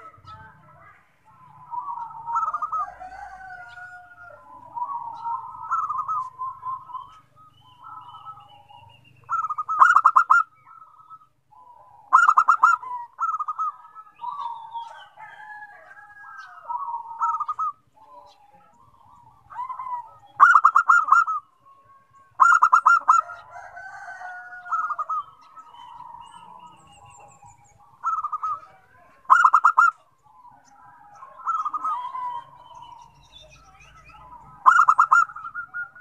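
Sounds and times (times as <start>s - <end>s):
doves cooing and trilling: 0.0s - 36.0s.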